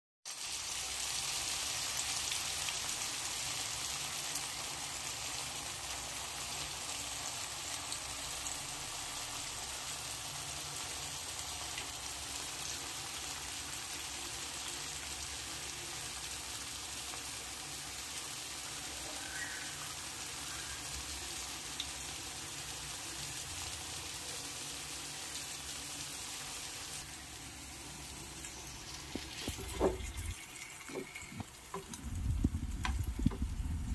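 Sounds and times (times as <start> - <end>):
oil sizzling in pan: 0.2 - 33.9.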